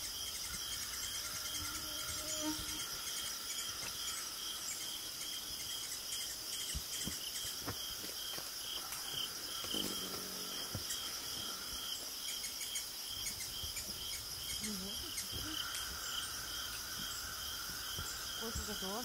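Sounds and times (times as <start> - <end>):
high steady hiss: 0.0 - 7.5, 8.3 - 19.0
insects chirping: 0.0 - 19.0.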